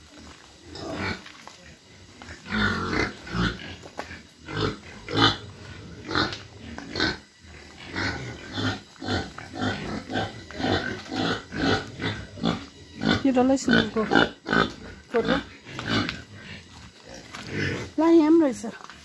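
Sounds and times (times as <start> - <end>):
pigs grunting: 0.0 - 19.0.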